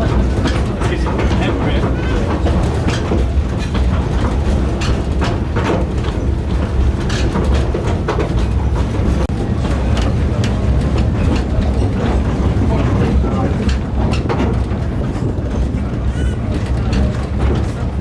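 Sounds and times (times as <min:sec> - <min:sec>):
train rumbling: 0:00.0 - 0:18.0
wheels clicking over rail joints: 0:00.0 - 0:18.0.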